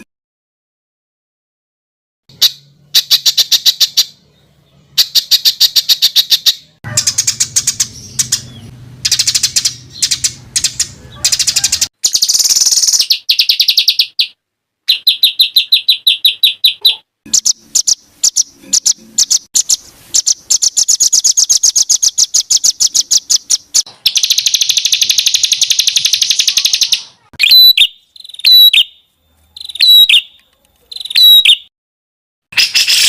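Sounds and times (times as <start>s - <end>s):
songbirds trilling rapid high notes: 2.3s - 31.7s, 32.5s - 33.0s.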